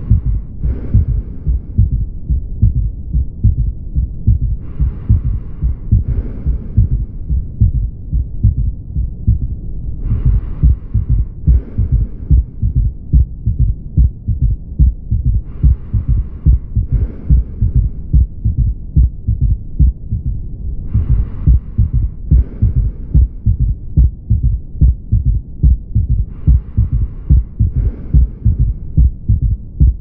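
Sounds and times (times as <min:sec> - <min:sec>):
galloping heartbeat thuds: 0:00.0 - 0:30.0.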